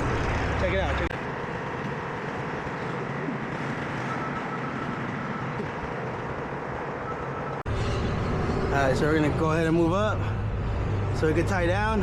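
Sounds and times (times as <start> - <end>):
diesel engine hum: 0.0 - 12.0.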